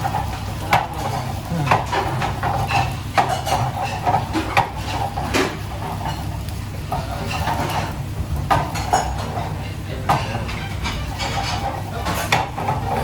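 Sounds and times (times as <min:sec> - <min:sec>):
metal utensils clinking on pots: 0:00.0 - 0:13.0.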